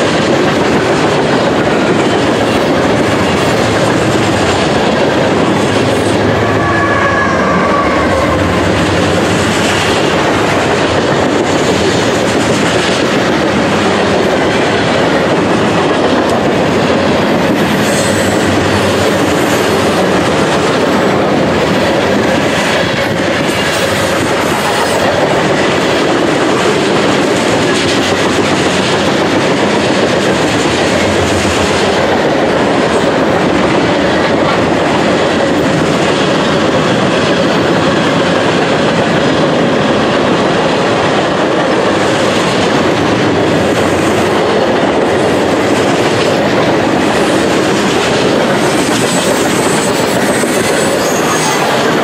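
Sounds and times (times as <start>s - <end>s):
clickety-clack of wheels on rail joints: 0.0s - 52.0s
freight train rumbling past: 0.0s - 52.0s.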